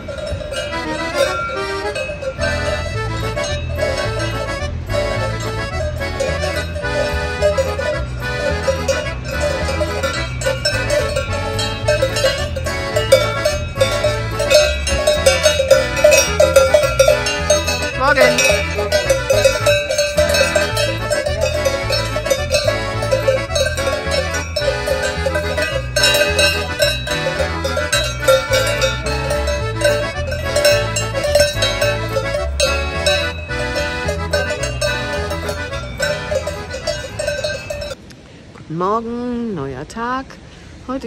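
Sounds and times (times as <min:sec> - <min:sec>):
cowbells clanking: 0:00.0 - 0:38.1.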